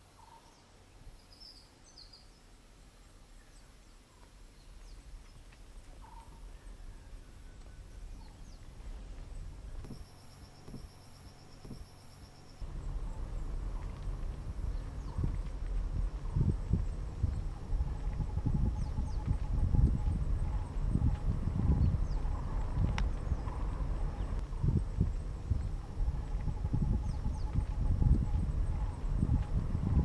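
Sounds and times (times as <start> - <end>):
low rumble: 5.1 - 30.0.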